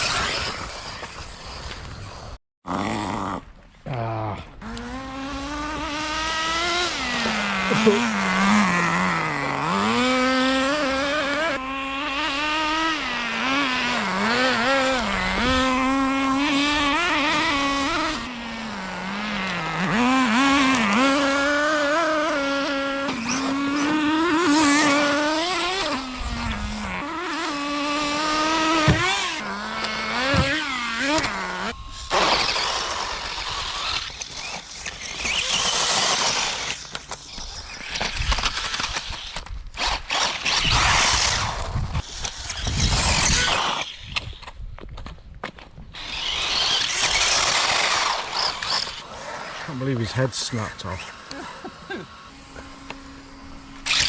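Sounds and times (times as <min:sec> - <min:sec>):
rc car motor revving: 0:00.0 - 0:03.3, 0:04.6 - 0:44.5, 0:46.0 - 0:54.0.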